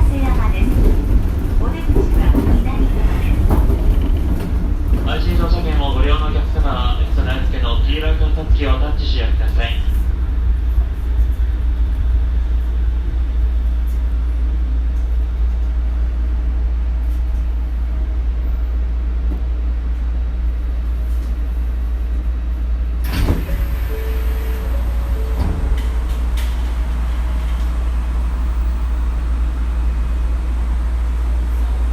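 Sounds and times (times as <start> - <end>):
monorail running rumble: 0.0 - 31.9.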